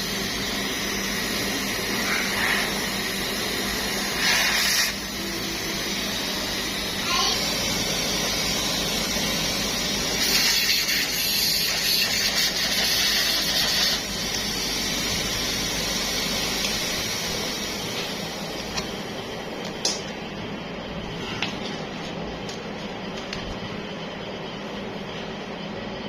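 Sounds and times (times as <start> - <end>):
gas hissing: 0.0 - 21.4
machine hum: 0.0 - 26.0.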